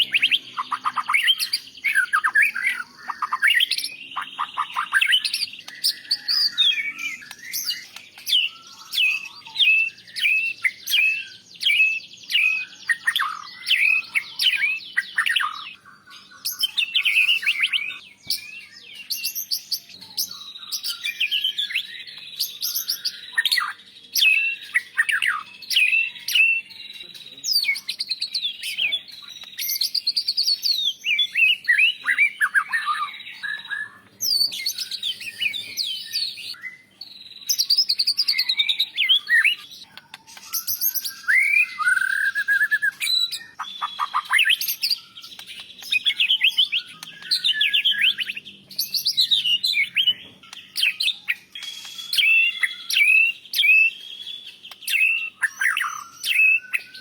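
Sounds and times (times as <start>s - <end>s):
songbird singing whistled trills: 0.0s - 57.0s.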